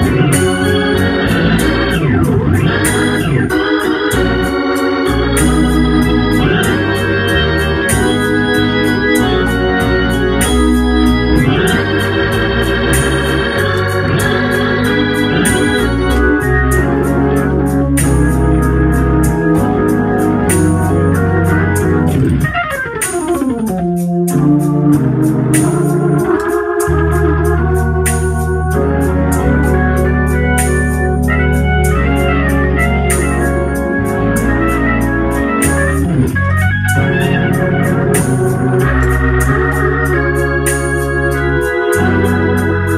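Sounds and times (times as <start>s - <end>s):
organ chords: 0.0s - 42.9s.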